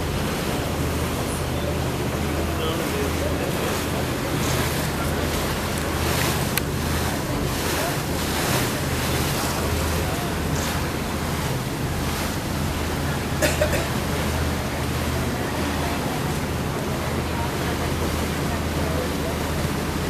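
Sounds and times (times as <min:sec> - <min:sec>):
boat engine hum: 0:00.0 - 0:20.0
water rushing past hull: 0:00.0 - 0:20.0.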